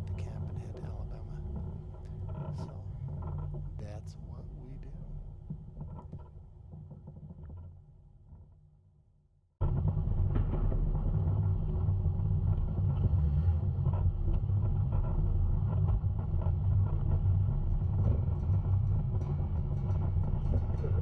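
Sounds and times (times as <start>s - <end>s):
engine low rumble: 0.0s - 8.2s, 9.9s - 21.0s.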